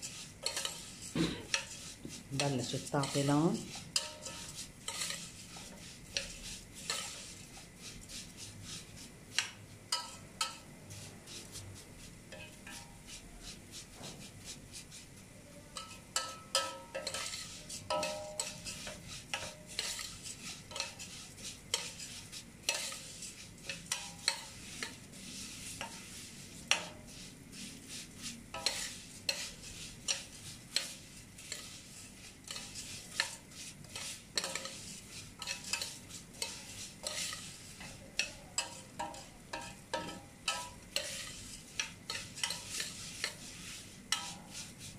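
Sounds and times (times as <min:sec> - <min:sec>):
metal spoon scraping a pot: 0:00.0 - 0:08.4, 0:09.4 - 0:11.6, 0:12.3 - 0:13.3, 0:15.7 - 0:27.7, 0:28.5 - 0:44.9
noodles sizzling in oil: 0:00.0 - 0:44.9.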